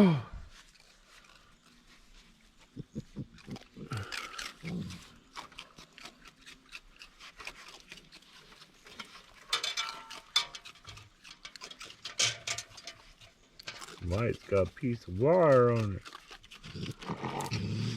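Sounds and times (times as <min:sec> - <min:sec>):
raccoons chewing and crunching: 0:00.3 - 0:17.9.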